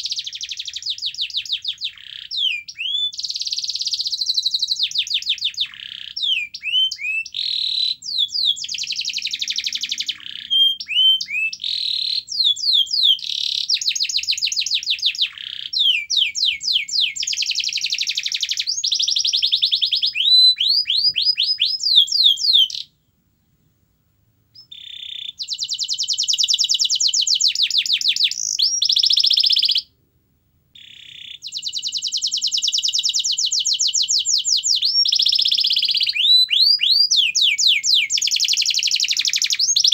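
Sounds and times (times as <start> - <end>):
canary singing trills: 0.0 - 23.0, 24.6 - 29.9, 30.8 - 39.9.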